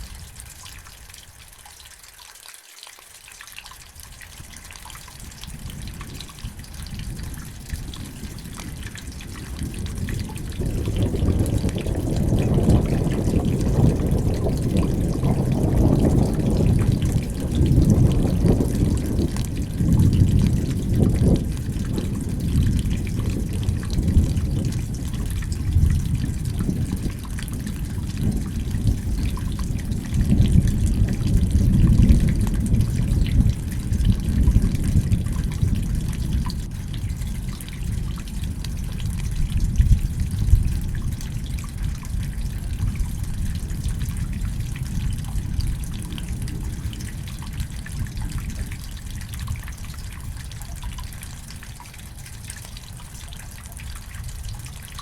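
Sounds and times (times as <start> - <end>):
rain falling: 0.0 - 55.0
water dripping and trickling: 0.0 - 55.0
rolling thunder rumble: 5.4 - 50.5.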